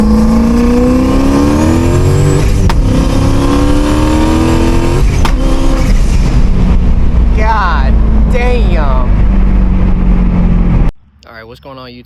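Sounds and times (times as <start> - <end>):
car engine at full throttle: 0.0 - 11.3.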